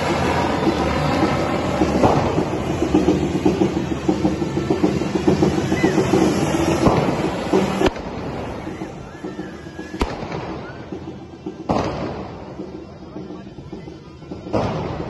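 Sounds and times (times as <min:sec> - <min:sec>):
fireworks hissing rush: 0:00.0 - 0:15.0.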